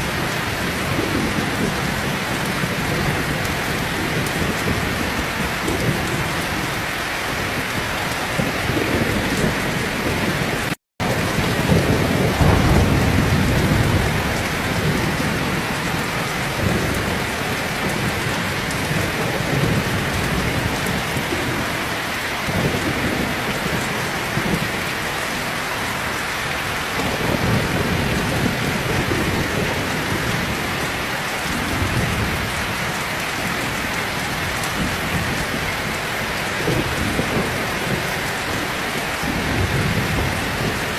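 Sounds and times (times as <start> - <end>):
low rolls of thunder: 0.0 - 6.7, 7.5 - 21.8, 22.4 - 25.6, 27.0 - 40.9
heavy rain pouring: 0.0 - 40.9.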